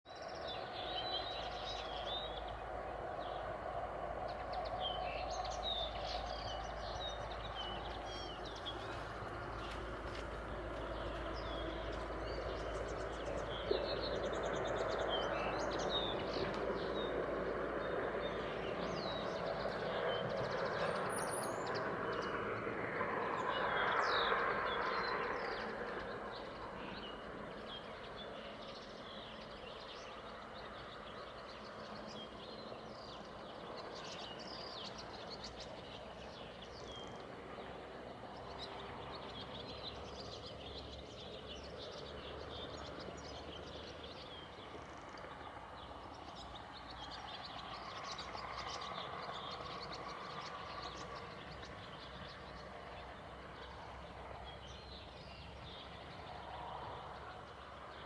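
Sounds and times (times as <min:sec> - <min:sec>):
small birds chirping: 0:00.1 - 0:58.0.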